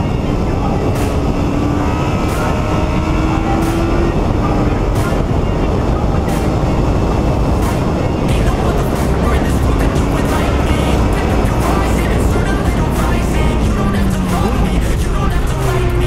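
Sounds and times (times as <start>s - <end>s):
motorcycle engine: 0.0s - 16.0s
wind rush: 0.0s - 16.0s.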